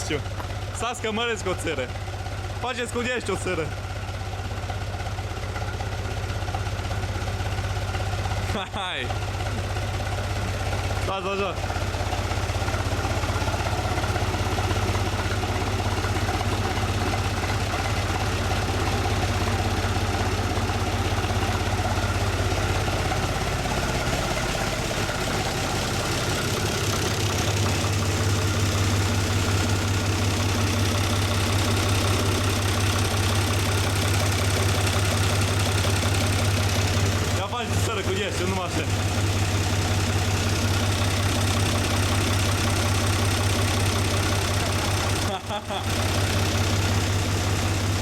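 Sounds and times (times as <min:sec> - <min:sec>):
tractor diesel engine idling: 0:00.0 - 0:48.0.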